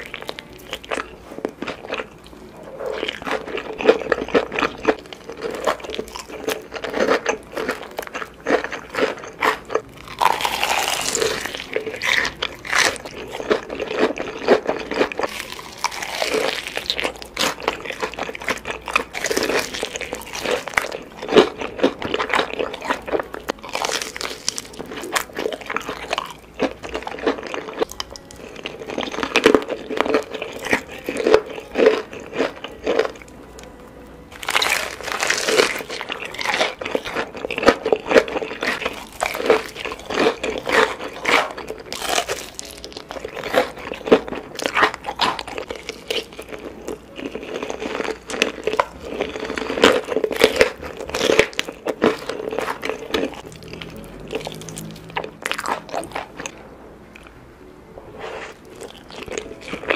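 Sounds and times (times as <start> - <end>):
crunching and chewing fried chicken: 0.0 - 57.4, 58.2 - 59.9.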